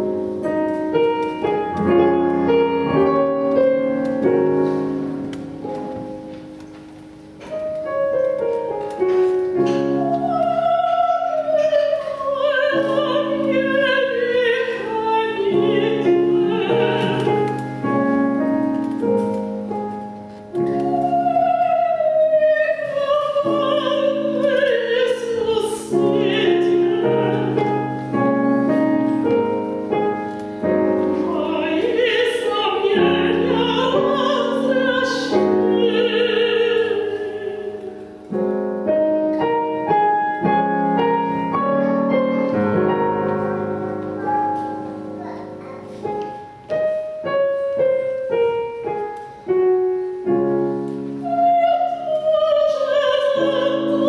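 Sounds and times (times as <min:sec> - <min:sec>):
piano accompaniment: 0:00.0 - 0:54.0
woman singing classical song: 0:07.7 - 0:44.8, 0:47.2 - 0:54.0.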